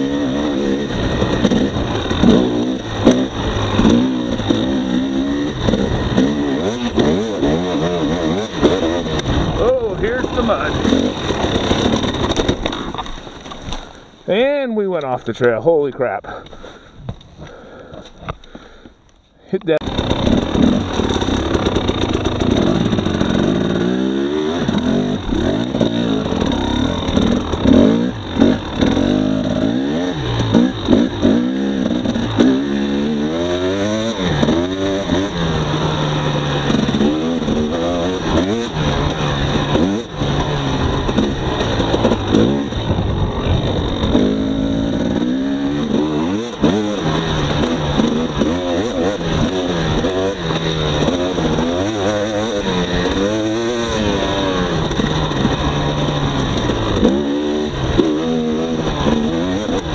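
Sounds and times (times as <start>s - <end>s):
two-stroke motorcycle engine revving: 0.0s - 13.2s, 19.8s - 59.9s.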